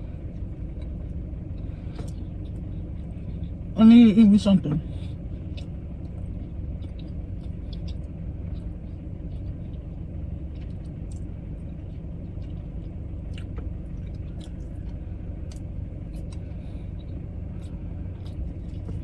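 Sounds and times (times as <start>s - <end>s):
car rumble from inside cabin: 0.0s - 19.0s.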